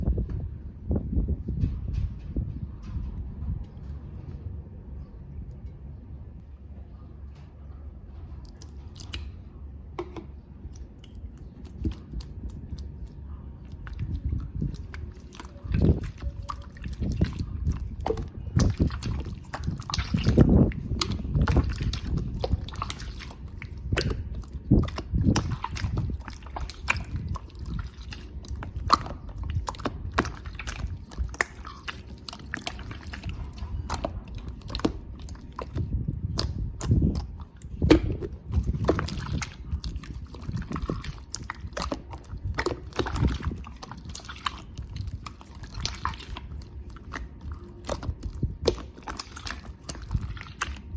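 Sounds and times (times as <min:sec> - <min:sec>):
wind buffeting microphone: 0:00.0 - 0:06.8, 0:11.6 - 0:50.9.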